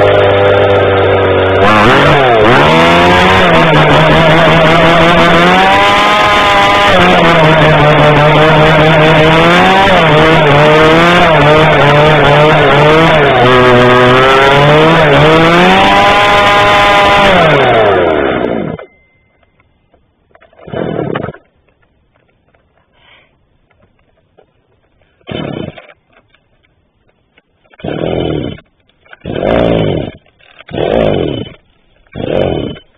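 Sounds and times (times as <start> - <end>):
small engine running: 0.0 - 18.9, 20.4 - 21.6, 25.2 - 26.4, 27.6 - 32.9.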